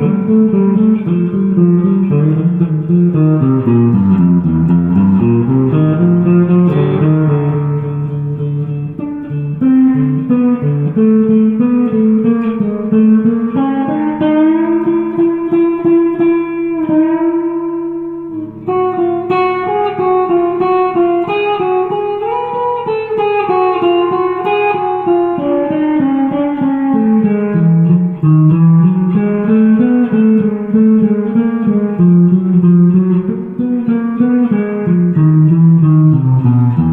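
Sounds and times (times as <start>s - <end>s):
plucked guitar melody: 0.0s - 36.9s.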